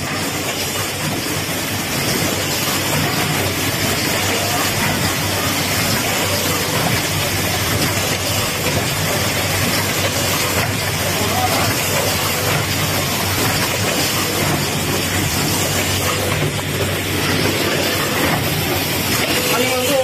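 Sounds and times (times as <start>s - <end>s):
machine clatter and whir: 0.0s - 20.0s.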